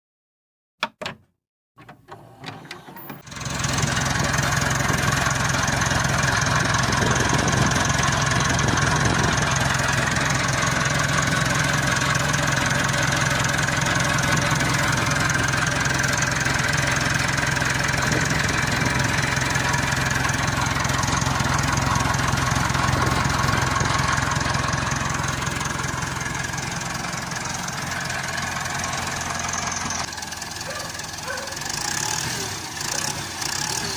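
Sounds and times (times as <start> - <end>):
starter motor cranking: 1.9 - 33.9
tractor diesel engine running: 2.2 - 33.9.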